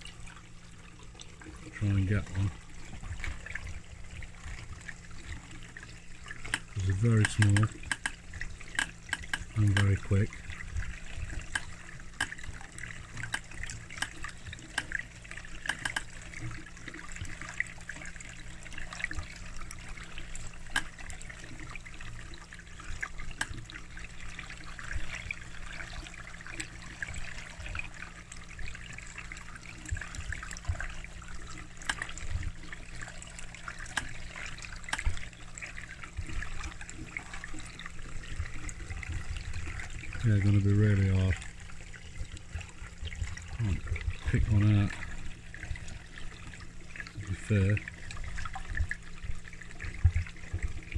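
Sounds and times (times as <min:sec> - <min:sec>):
low hum: 0:00.0 - 0:50.9
water trickling in a pond: 0:00.0 - 0:50.9.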